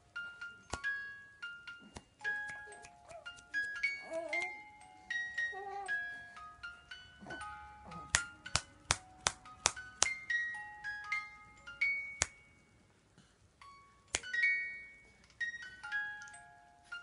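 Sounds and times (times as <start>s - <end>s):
music box chiming tune: 0.1s - 12.9s, 13.6s - 17.0s.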